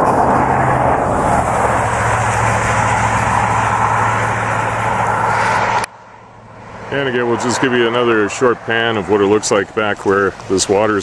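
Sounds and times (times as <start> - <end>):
low hum: 0.0 - 9.8
highway traffic rush: 0.0 - 11.0.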